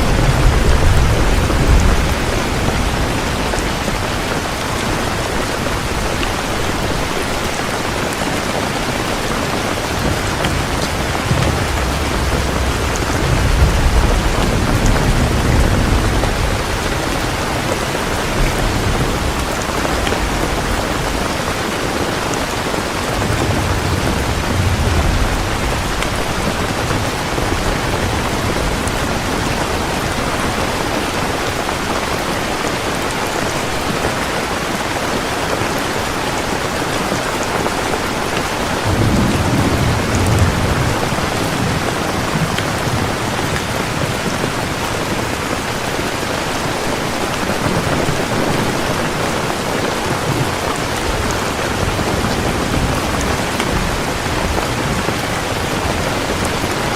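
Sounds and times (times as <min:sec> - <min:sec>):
heavy rain falling: 0:00.0 - 0:56.9
thunder rumbling: 0:00.0 - 0:56.9.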